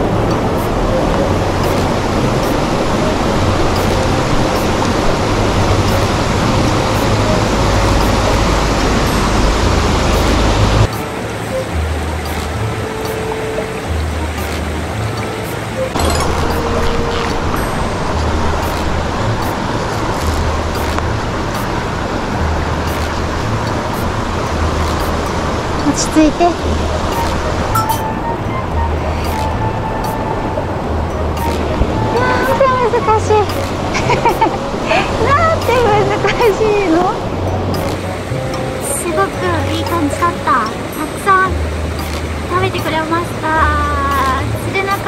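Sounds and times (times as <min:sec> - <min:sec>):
mountain stream rushing: 0:00.0 - 0:45.0.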